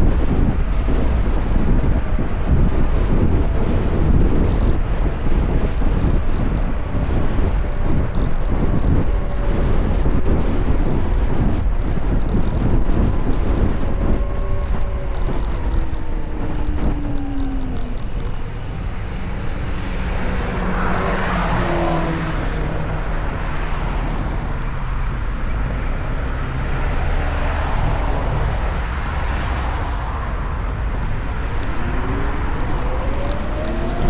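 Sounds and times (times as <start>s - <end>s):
electric motorcycle rumble: 0.0s - 34.0s
wind noise: 0.0s - 34.0s
motor whine rising in pitch: 0.1s - 29.9s, 31.0s - 34.0s.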